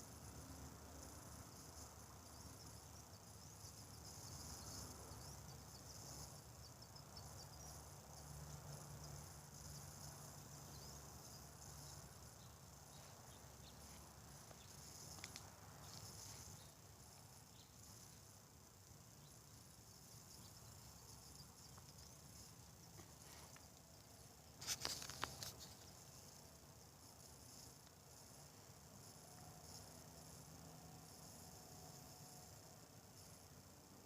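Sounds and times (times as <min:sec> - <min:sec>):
insects chirping: 0:00.0 - 0:34.0.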